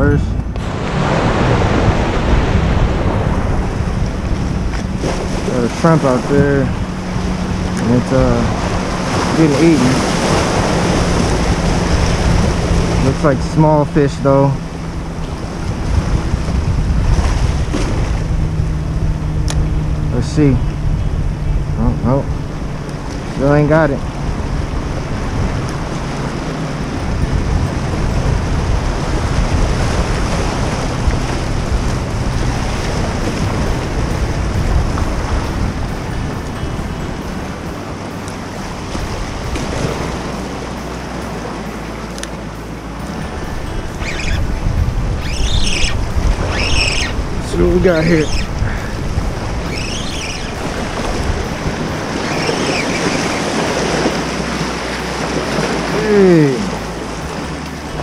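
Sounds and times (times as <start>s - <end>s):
surf washing against rocks: 0.0s - 18.9s, 19.5s - 20.6s, 21.8s - 58.0s
wind on microphone: 0.0s - 41.8s, 42.4s - 58.0s.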